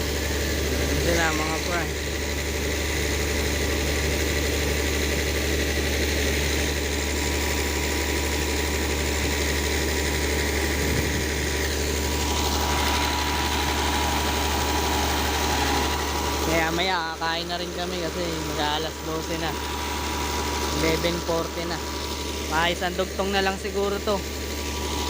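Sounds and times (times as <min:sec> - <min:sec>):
air compressor engine drone: 0:00.0 - 0:25.0.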